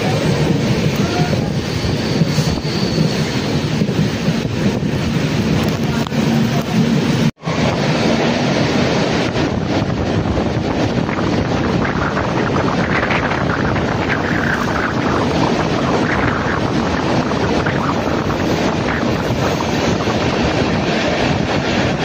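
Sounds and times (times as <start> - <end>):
train rushing through tunnel: 0.0 - 22.0
wind buffeting microphone: 0.0 - 22.0.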